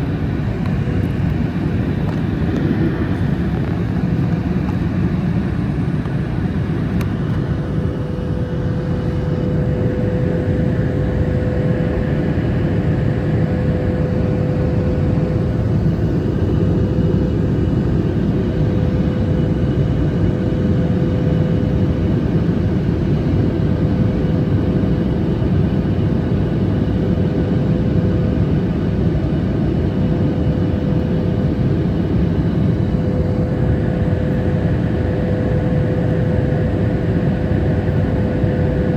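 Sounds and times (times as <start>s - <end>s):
jet engines in flight: 0.0s - 38.9s.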